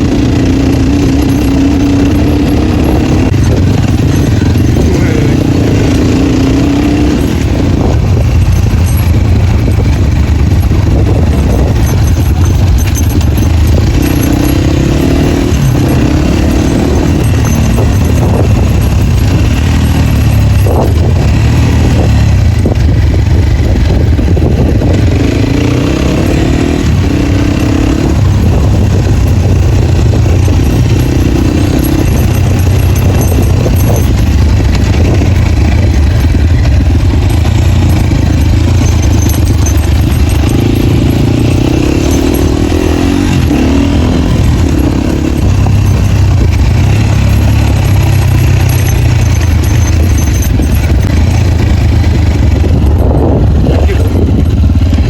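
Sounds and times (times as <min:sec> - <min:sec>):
motorcycle open exhaust revving: 0:00.0 - 0:55.0.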